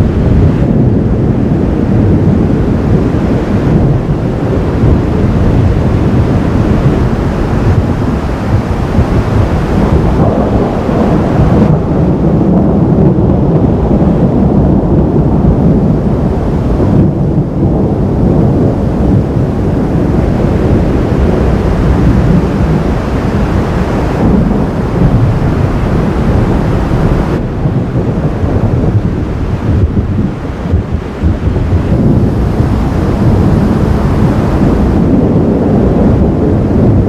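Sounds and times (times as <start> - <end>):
thunder rumbling: 0.0 - 37.0.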